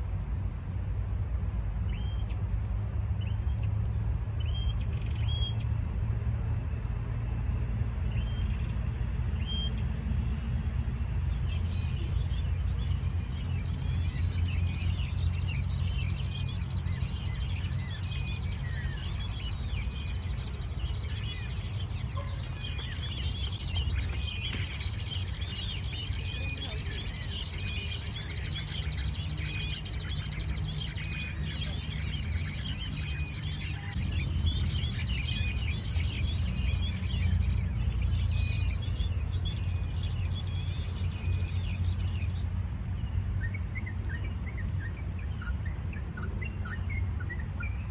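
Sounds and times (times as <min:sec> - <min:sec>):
steady low rumble: 0:00.0 - 0:43.8
small birds chirping: 0:00.0 - 0:47.9.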